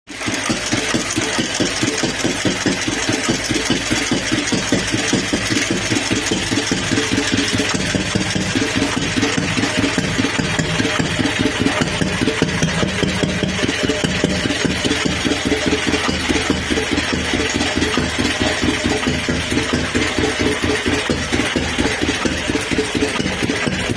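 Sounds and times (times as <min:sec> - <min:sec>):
stationary engine idling: 0:00.1 - 0:23.9.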